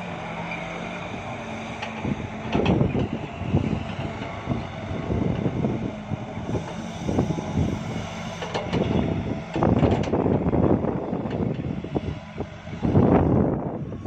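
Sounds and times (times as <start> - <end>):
excavator diesel engine under load: 0.0 - 14.0.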